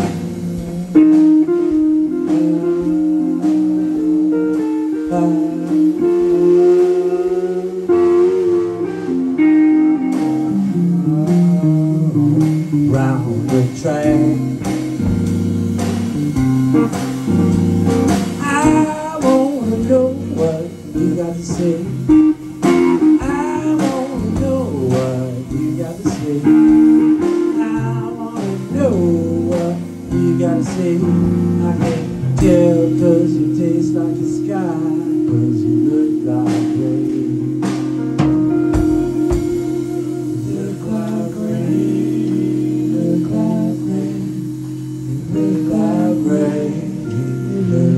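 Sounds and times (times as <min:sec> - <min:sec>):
drum kit with cymbals: 0:00.0 - 0:47.9
electric guitar solo: 0:00.0 - 0:47.9.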